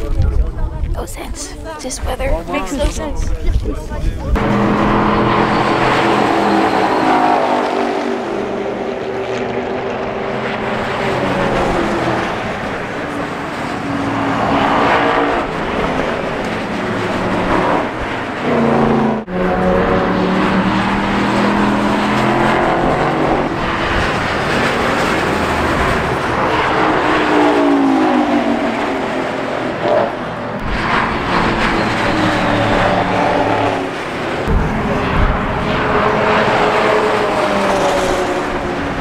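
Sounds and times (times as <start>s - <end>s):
car engines driving past: 4.4s - 39.0s.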